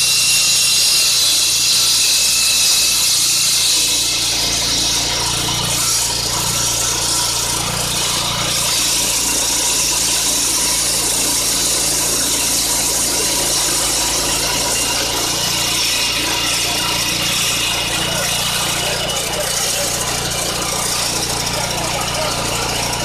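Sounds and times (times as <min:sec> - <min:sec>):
concrete saw running: 0:00.0 - 0:23.0.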